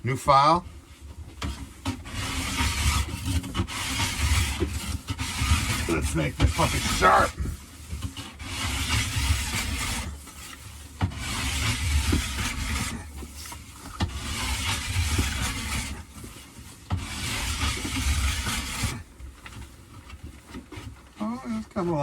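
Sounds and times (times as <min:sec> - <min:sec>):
file rasping along steel edge: 0:01.4 - 0:19.1.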